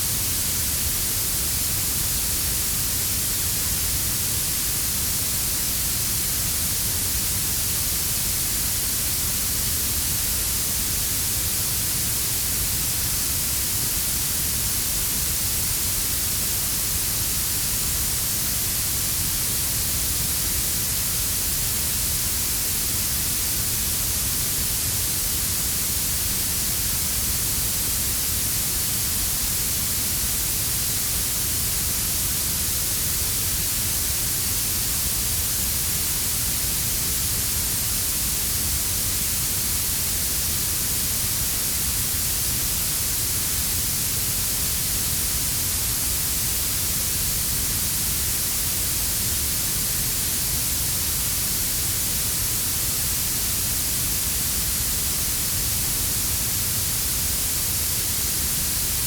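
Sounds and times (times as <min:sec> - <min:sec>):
high-frequency hiss: 0:00.0 - 0:59.0.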